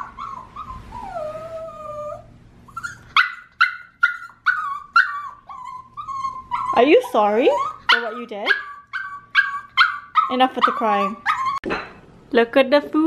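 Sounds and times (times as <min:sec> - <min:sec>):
puppy whining and yelping: 0:00.0 - 0:11.6.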